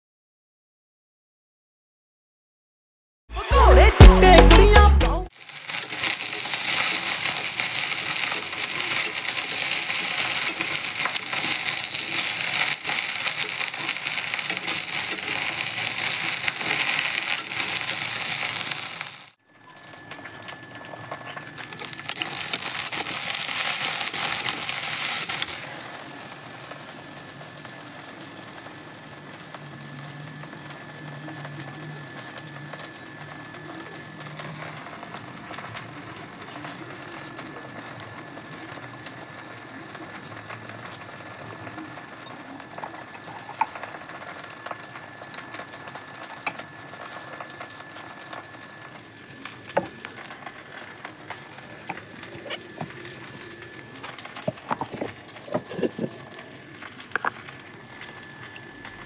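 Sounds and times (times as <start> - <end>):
okra sizzling in oil: 5.3 - 59.0
faint steady whine: 5.4 - 59.0.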